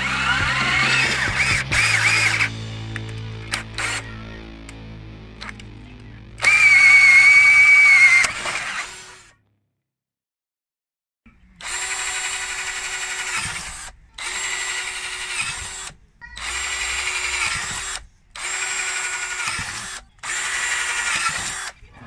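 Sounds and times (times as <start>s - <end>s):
power drill boring plastic: 0.0s - 4.8s, 6.4s - 9.4s, 11.4s - 22.0s.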